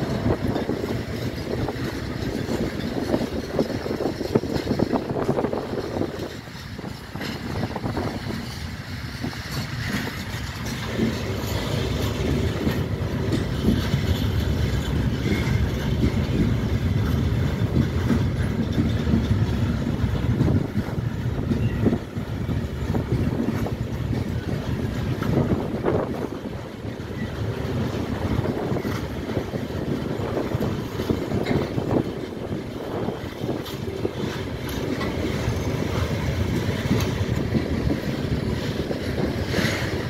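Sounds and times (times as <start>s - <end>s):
steel wheels rumbling on rails: 0.0s - 40.0s.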